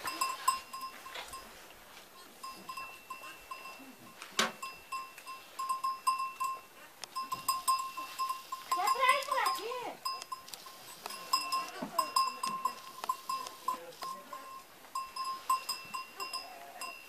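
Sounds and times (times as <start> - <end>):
goat bell clinking: 0.0 - 17.0.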